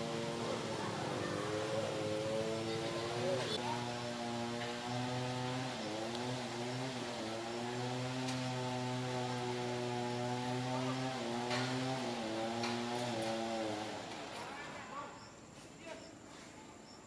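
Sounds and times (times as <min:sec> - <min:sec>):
engine running steadily: 0:00.0 - 0:14.5.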